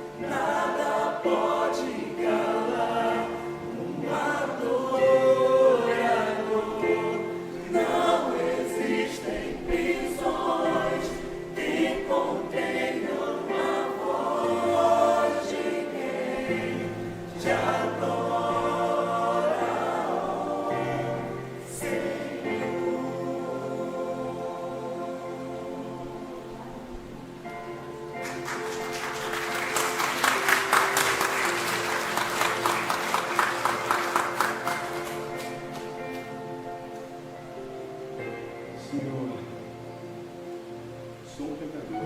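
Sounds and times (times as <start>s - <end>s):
choir singing a hymn: 0.0s - 42.0s.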